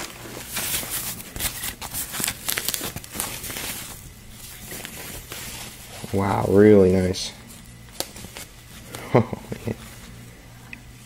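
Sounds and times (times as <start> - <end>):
plastic wrapping rustling: 0.0 - 10.2.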